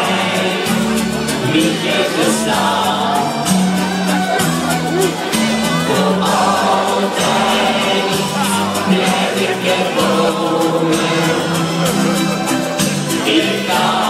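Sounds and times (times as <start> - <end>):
crowd singing together: 0.0 - 14.0
party music: 0.0 - 14.0.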